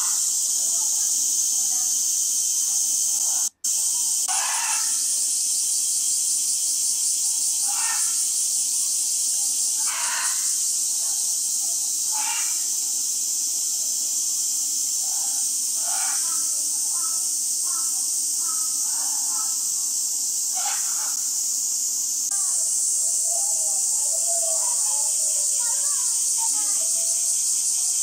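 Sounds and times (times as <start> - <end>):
high-pitched hiss: 0.0 - 28.0.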